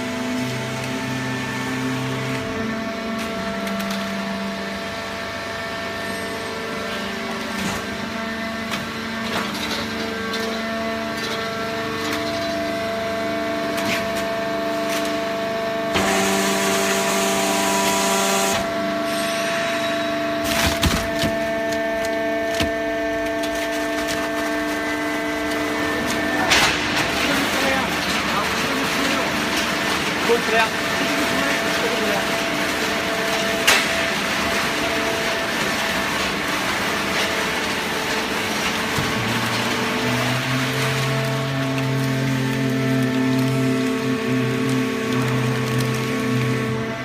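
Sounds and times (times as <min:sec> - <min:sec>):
hydraulic baler motor humming: 0:00.0 - 0:47.0.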